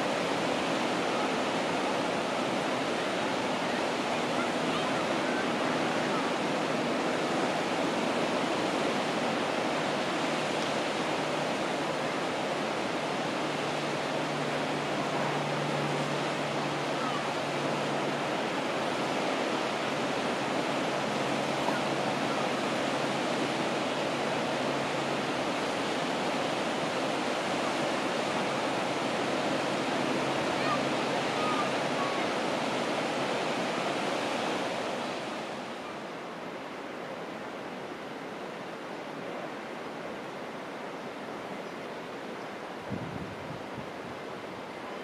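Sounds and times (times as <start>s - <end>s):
waves breaking on beach: 0.0s - 45.0s.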